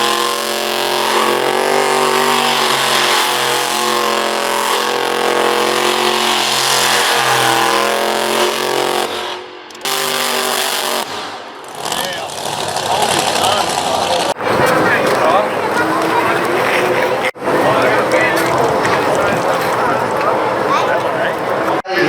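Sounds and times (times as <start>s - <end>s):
car engine at high revs: 0.0s - 20.6s.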